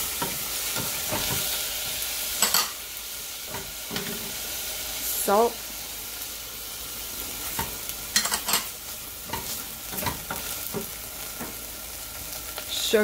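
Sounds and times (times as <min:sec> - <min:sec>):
rice sizzling in oil: 0:00.0 - 0:13.0.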